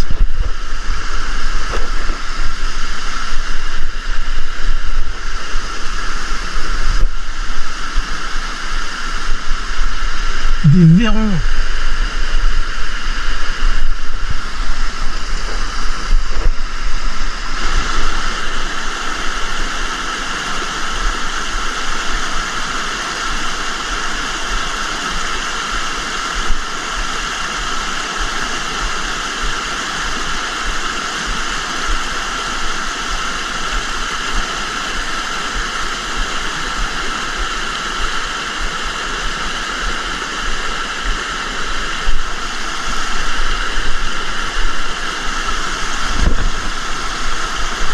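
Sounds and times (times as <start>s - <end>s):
river water rushing over rocks: 0.0s - 47.9s.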